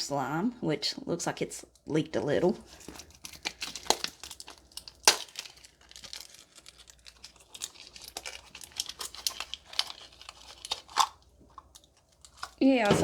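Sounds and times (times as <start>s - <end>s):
plastic container crinkling: 2.5s - 13.0s.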